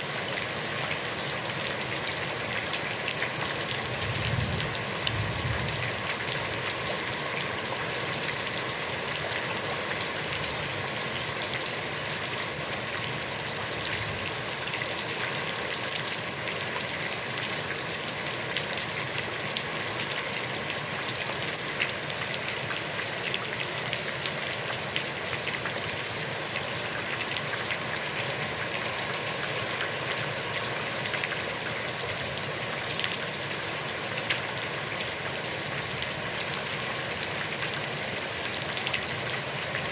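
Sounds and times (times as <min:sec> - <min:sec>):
heavy rain on pond water: 0:00.0 - 0:39.9.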